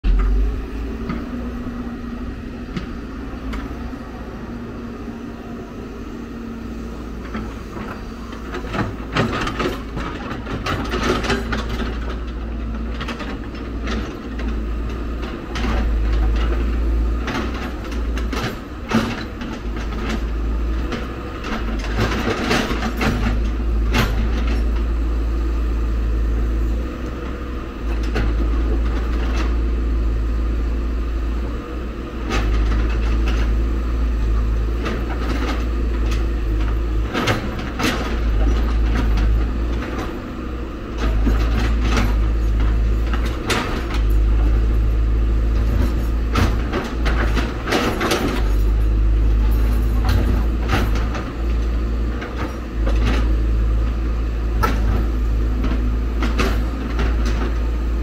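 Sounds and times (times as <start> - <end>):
excavator diesel engine rumbling: 0.0 - 58.0.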